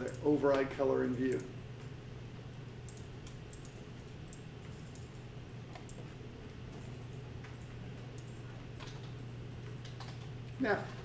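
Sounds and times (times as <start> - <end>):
computer mouse clicks: 0.0 - 1.5, 2.6 - 6.1, 6.7 - 10.6
steady low hum: 0.0 - 11.0.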